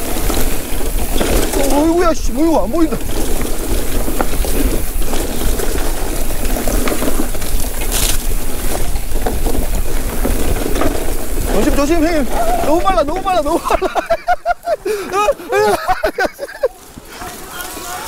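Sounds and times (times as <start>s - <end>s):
wind buffeting microphone: 0.0s - 17.1s
bike knocks and rattles: 0.0s - 18.0s
bike tyres on dirt trail: 0.0s - 18.0s.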